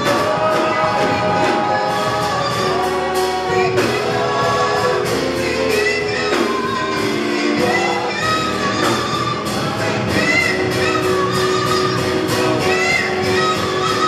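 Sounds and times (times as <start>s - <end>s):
band playing: 0.0s - 14.0s
steady drum beat: 0.0s - 14.0s
women singing: 0.0s - 14.0s.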